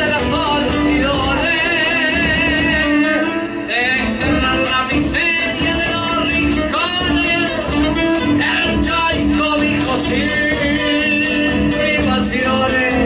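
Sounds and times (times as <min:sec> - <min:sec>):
folk music: 0:00.0 - 0:13.0.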